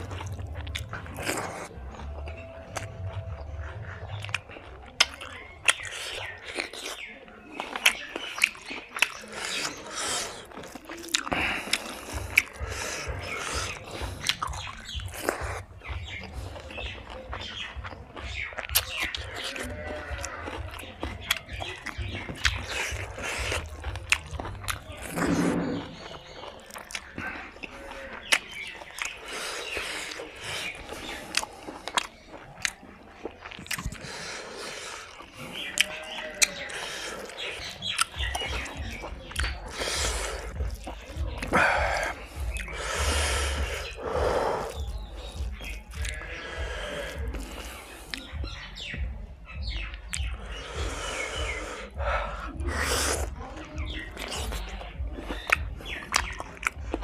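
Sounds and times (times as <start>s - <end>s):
chewing with mouth clicks: 0.0s - 57.0s
wet lip smacks: 7.6s - 25.4s, 26.0s - 49.0s, 49.6s - 57.0s.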